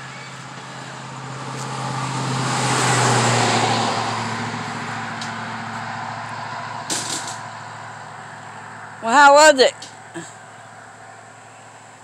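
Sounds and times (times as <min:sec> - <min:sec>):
riding mower engine running: 0:00.0 - 0:12.0.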